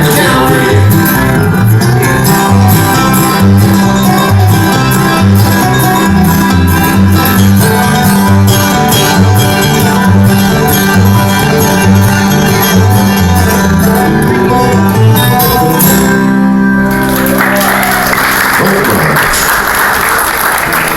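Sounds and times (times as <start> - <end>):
bouncing bass line: 0.0 - 17.3
strummed guitar: 0.0 - 20.9.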